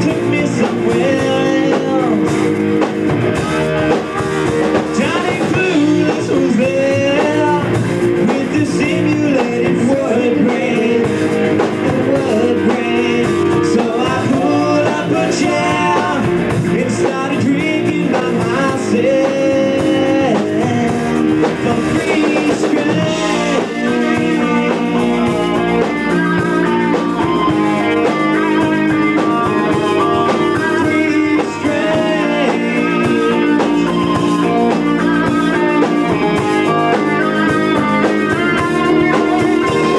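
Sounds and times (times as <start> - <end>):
person singing: 0.0 - 2.5, 3.4 - 39.9
drum kit: 0.0 - 39.9
electric guitars: 0.0 - 39.9.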